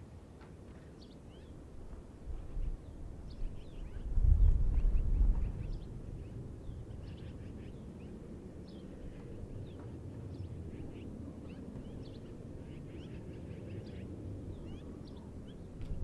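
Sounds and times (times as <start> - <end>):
birds chirping: 2.4 - 16.0.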